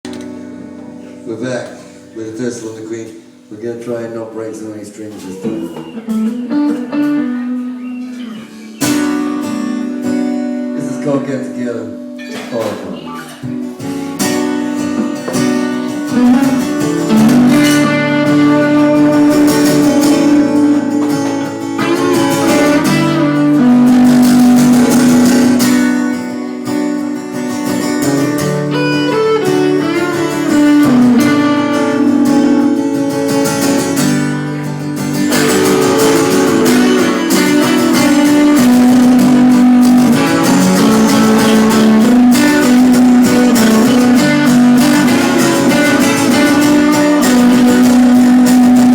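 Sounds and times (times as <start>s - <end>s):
strummed and picked guitar: 0.0s - 48.9s.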